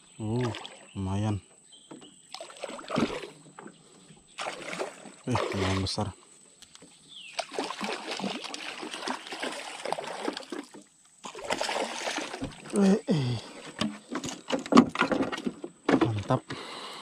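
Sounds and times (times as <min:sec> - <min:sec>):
water splashing and trickling: 0:00.0 - 0:16.4.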